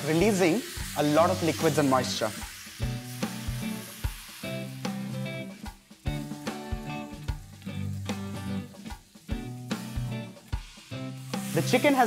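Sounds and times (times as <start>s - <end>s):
background music with steady beat: 0.0s - 12.0s
chicken sizzling in a pan: 0.0s - 12.0s.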